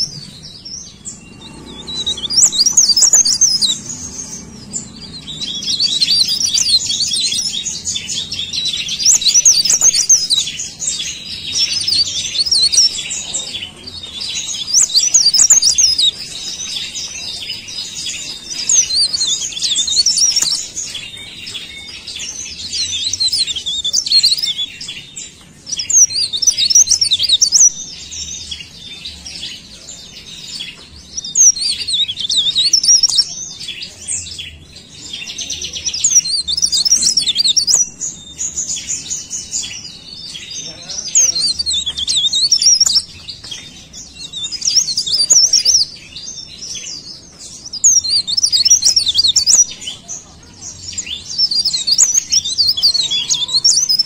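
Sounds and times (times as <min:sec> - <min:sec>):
leaf warbler singing: 0:00.0 - 0:54.0.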